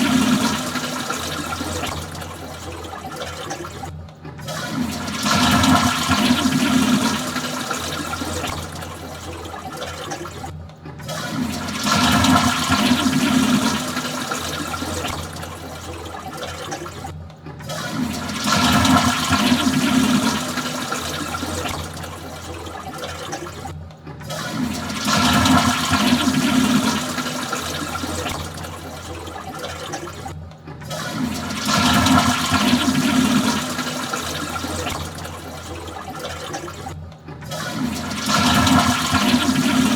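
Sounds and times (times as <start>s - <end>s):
toilet flushing: 0.0s - 39.9s.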